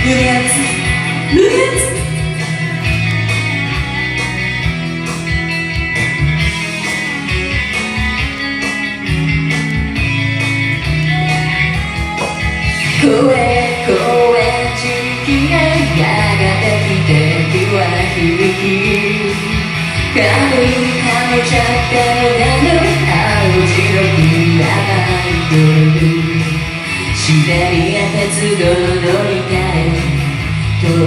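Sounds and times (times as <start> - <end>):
drums: 0.0 - 31.0
electric guitars: 0.0 - 31.0
punk rock band music: 0.0 - 31.0
sliding lead guitar melody: 0.0 - 31.0.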